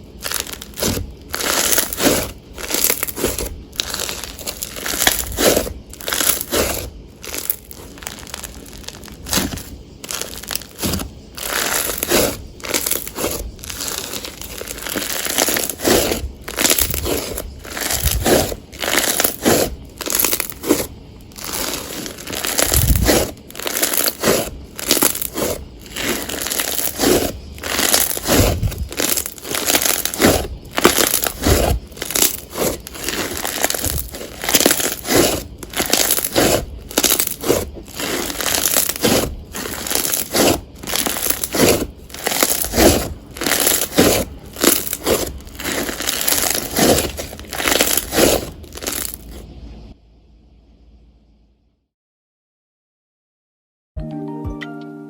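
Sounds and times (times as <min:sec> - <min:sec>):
hands pressing slime: 0:00.2 - 0:49.4.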